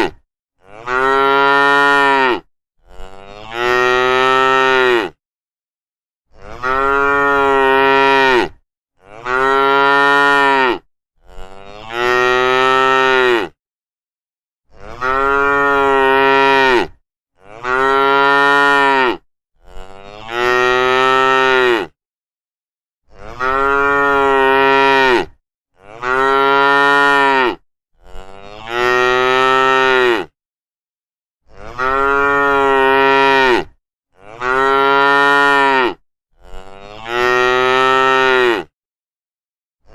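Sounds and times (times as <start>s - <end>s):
cattle mooing: 0.6s - 5.2s, 6.4s - 13.6s, 14.8s - 21.9s, 23.2s - 30.3s, 31.5s - 38.7s.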